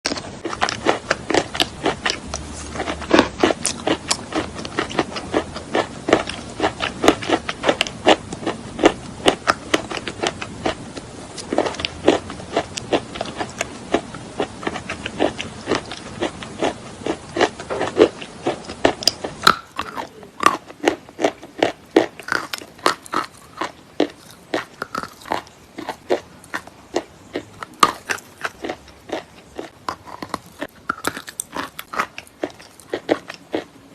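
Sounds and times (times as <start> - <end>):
chalk being chewed: 0.1 - 10.8, 11.4 - 33.7.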